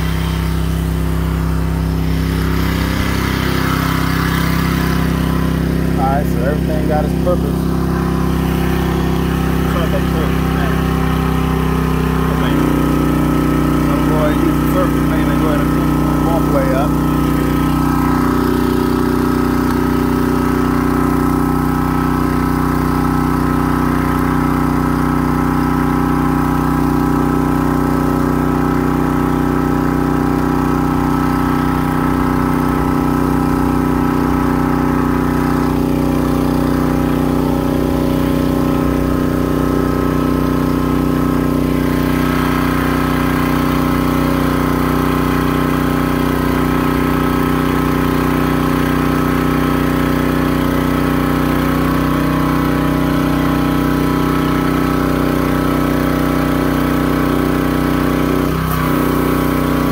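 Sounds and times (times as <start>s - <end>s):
pressure washer engine running: 0.0s - 59.9s.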